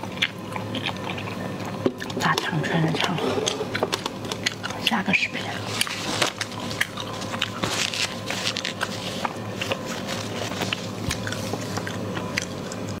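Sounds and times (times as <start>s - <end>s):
chewing and biting: 0.0s - 13.0s
faint steady hum: 0.0s - 13.0s.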